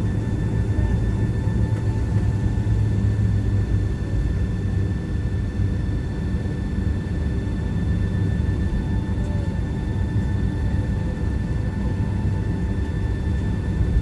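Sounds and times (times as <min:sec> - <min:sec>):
jet engine rumble in cabin: 0:00.0 - 0:14.0.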